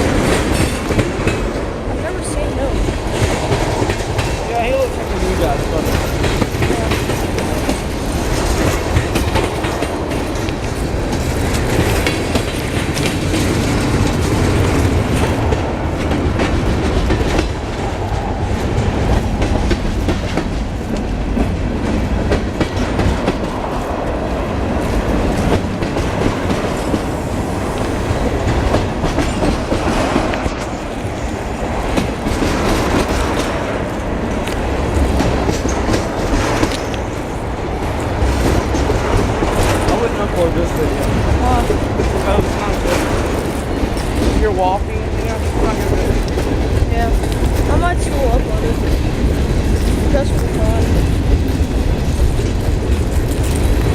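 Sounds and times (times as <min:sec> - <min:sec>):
freight train wheels on rails: 0:00.0 - 0:53.9.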